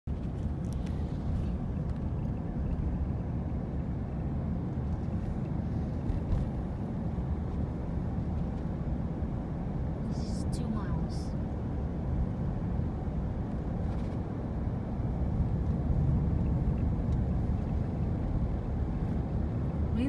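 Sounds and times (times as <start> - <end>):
car road and engine rumble: 0.1 - 20.0.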